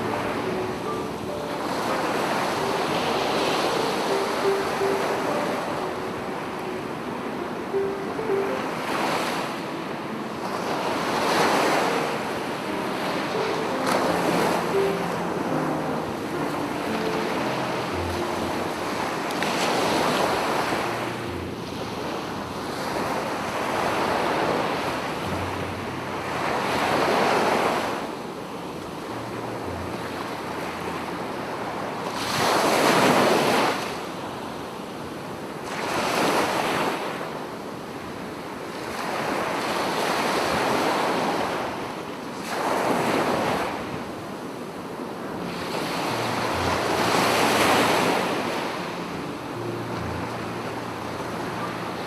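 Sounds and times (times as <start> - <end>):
sea waves breaking on beach: 0.0 - 52.0.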